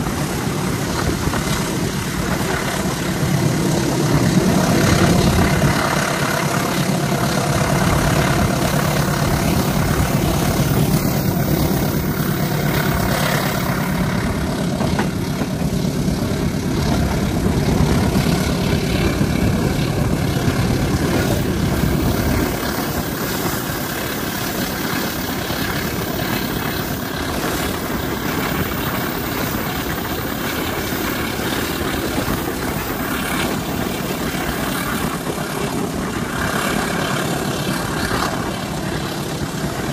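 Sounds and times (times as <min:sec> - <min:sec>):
locomotive engine drone: 0:00.0 - 0:39.9.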